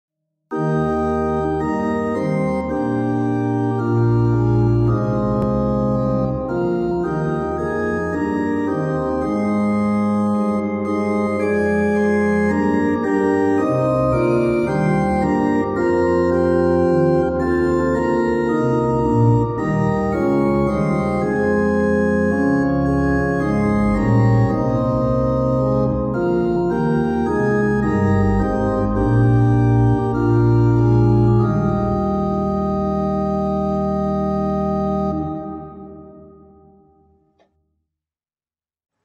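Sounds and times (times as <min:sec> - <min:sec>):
organ playing sustained chords: 0:00.5 - 0:37.2.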